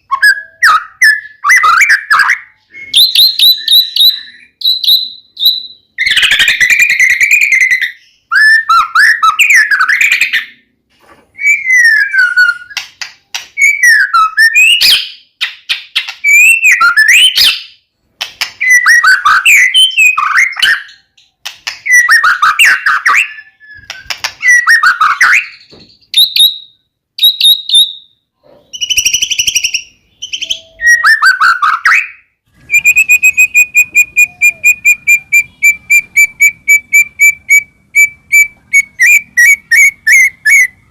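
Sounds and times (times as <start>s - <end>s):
bird singing whistled phrases: 0.0s - 10.6s, 11.4s - 12.8s, 13.6s - 15.2s, 16.2s - 17.8s, 18.6s - 21.1s, 21.8s - 40.9s.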